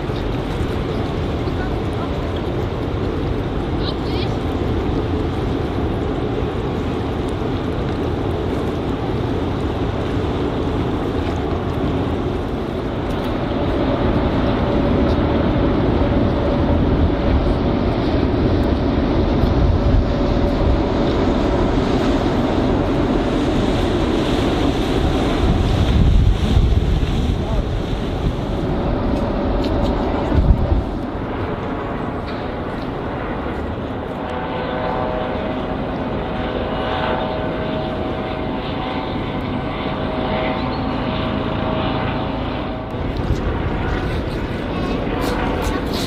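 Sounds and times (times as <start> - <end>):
boat engines rumbling: 0.0 - 46.0
moving water: 0.0 - 46.0
wind buffeting microphone: 0.0 - 46.0.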